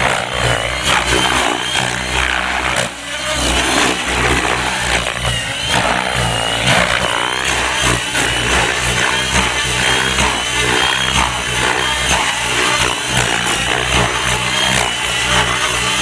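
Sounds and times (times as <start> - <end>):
helicopter rotor blade noise: 0.0 - 16.0
motor whine: 0.0 - 16.0.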